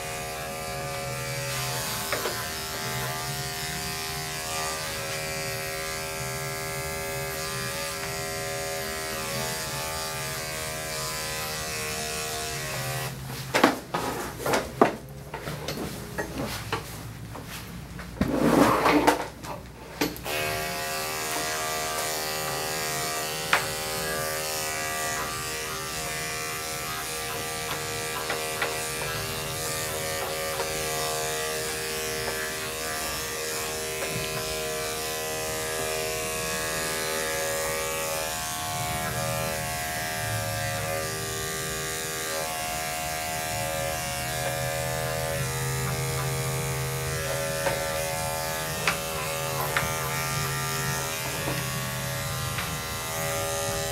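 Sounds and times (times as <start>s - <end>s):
electric clipper buzzing: 0.0s - 13.8s, 20.1s - 53.9s.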